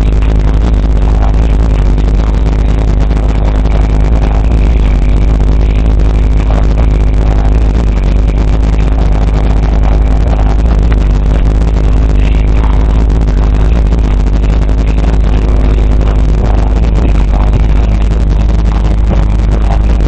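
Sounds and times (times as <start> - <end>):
deep bass rap music: 0.0 - 20.0.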